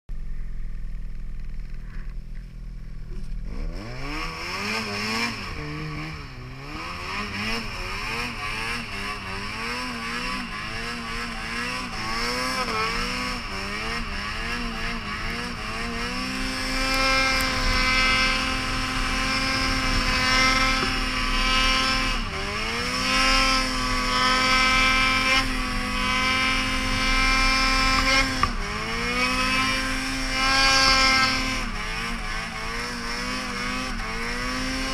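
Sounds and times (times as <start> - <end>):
snowmobile engine revving: 3.0 - 34.9.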